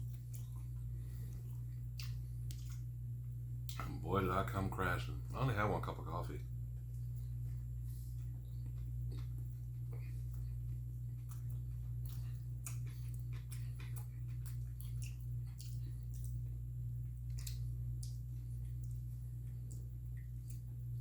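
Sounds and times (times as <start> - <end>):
person chewing food: 0.0 - 3.9, 6.7 - 21.0
low hum: 0.0 - 21.0.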